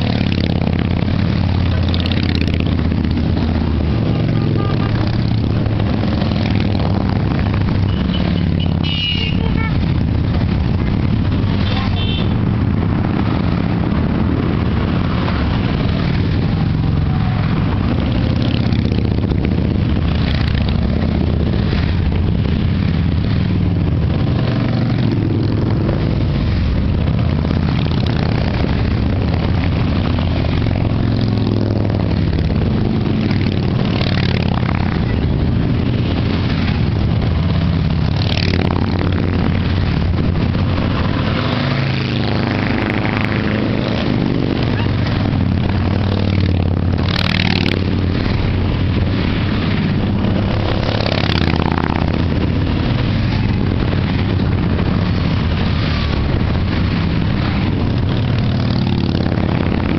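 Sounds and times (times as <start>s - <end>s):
motorcycle engines running: 0.0s - 59.9s
motorcycles revving: 0.0s - 59.9s.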